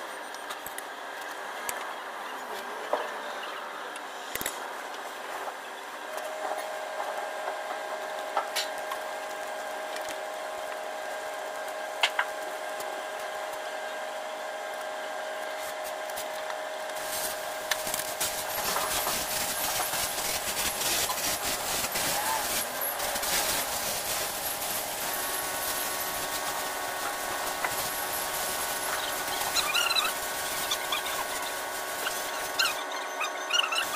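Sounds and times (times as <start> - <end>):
high-pitched mechanical whine: 0.0 - 33.9.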